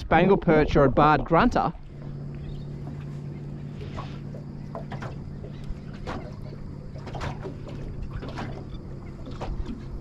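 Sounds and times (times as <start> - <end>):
steady low hum: 0.0 - 10.0
water lapping against boat hull: 0.0 - 10.0.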